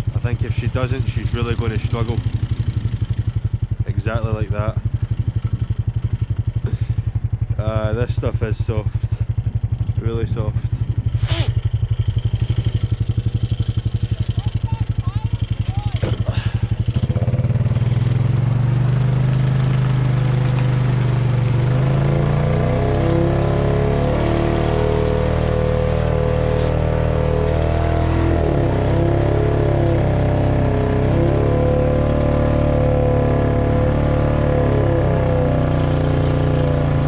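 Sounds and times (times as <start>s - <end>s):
quad bike engine labouring: 0.0s - 37.0s.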